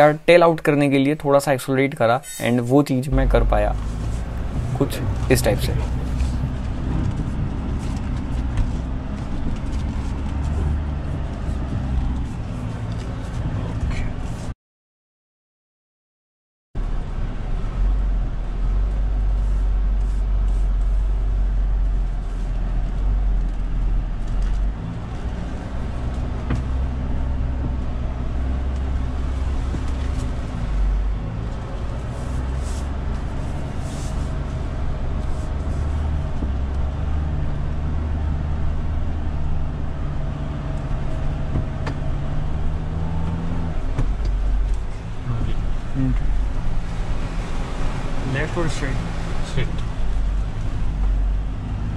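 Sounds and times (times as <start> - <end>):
car engine running: 3.1 - 14.5, 16.8 - 51.9.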